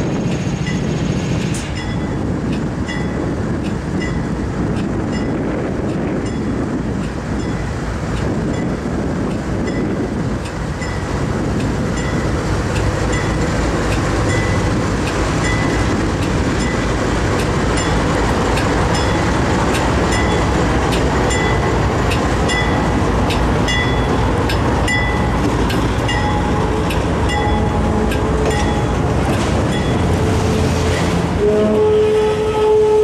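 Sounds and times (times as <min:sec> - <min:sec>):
diesel locomotive engine rumble: 0:00.0 - 0:33.0.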